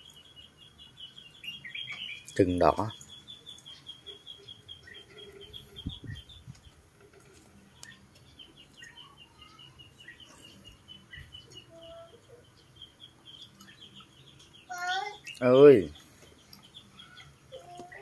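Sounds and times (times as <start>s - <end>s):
lower bird calls: 0.0s - 18.0s
small birds chirping: 0.0s - 18.0s.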